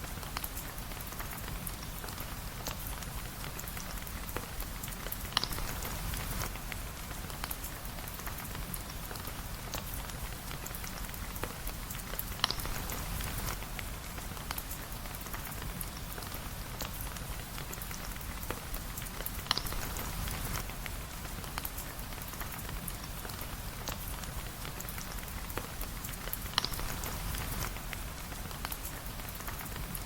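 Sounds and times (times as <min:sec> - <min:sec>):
rain drops tapping: 0:00.0 - 0:30.0.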